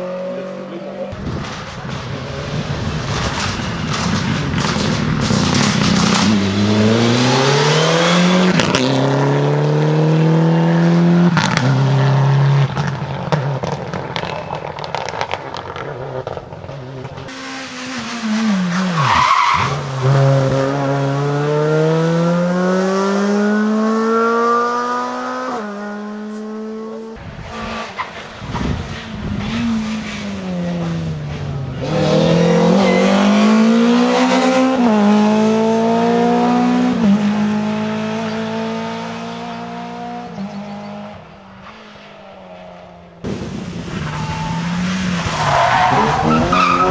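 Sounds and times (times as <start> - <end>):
rally car engines at full throttle: 0.0 - 46.9.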